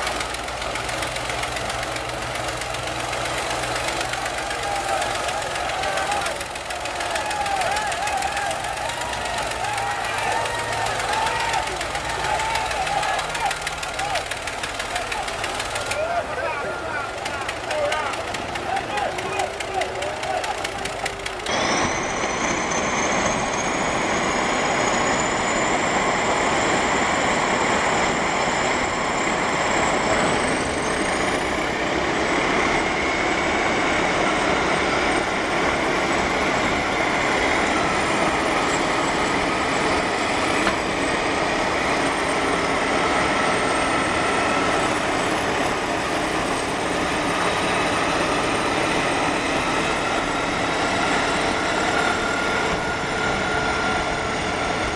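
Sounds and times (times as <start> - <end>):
bulldozer diesel engines: 0.0 - 54.9.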